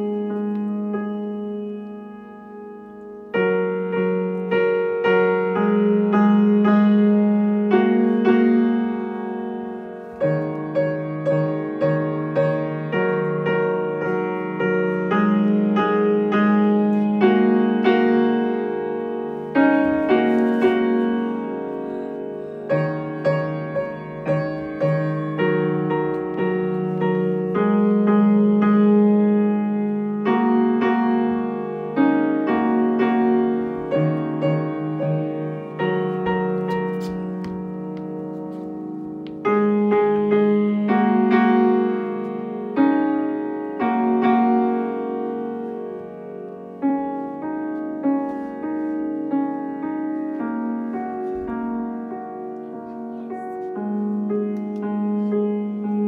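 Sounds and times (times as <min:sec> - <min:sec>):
grand piano piece: 0:00.0 - 0:56.0.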